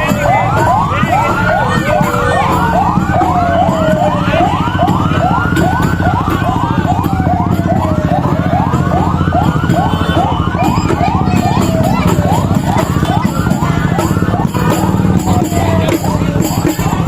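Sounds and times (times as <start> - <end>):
siren wailing: 0.0 - 17.0
siren yelping: 0.0 - 17.0.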